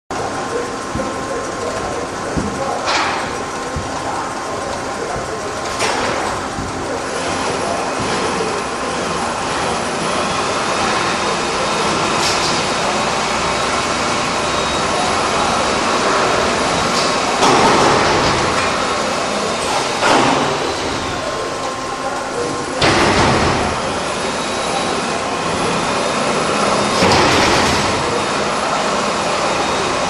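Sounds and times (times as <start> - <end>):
loud clatter: 0.1 - 21.8, 22.4 - 30.0
band saw machine running: 0.1 - 30.0.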